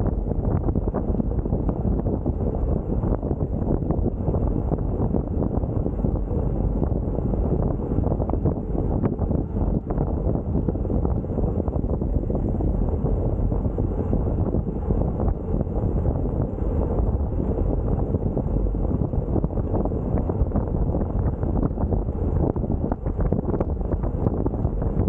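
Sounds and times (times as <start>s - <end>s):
wind blowing across microphone: 0.0s - 25.0s.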